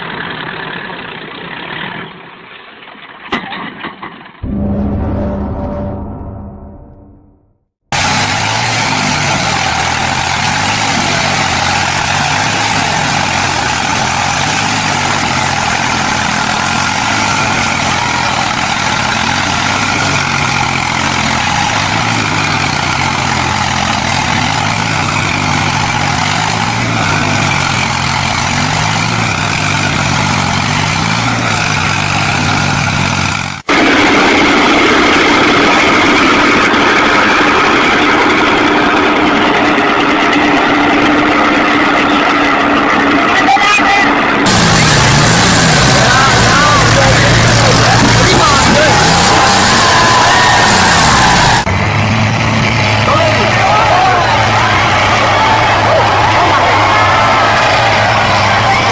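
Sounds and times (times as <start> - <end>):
tractor diesel engine: 0.0 - 3.3, 4.4 - 58.9
whining engine: 4.4 - 58.9.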